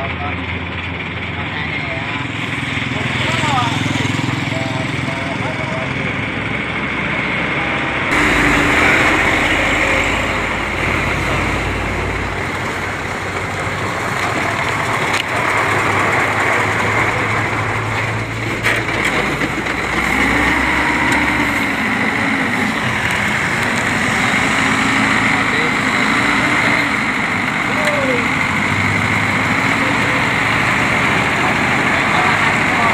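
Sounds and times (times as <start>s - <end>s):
truck engine rumbling: 0.0s - 32.9s
vehicles passing: 0.0s - 32.9s.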